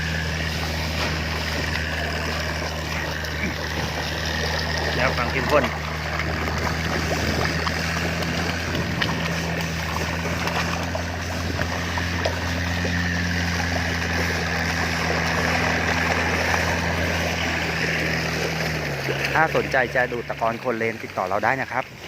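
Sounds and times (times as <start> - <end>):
boat engine humming: 0.0 - 22.0
mud slurry rushing and gurgling: 0.0 - 22.0.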